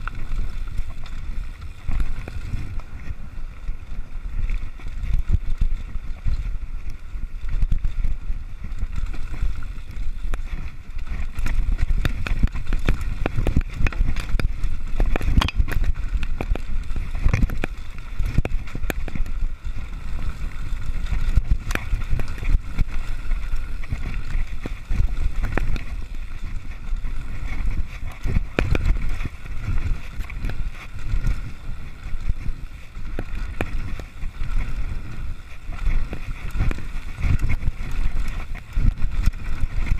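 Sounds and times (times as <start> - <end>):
bike knocking and rattling: 0.0 - 39.9
tyres rumbling on stones and dirt: 0.0 - 39.9
wind on microphone: 0.0 - 39.9.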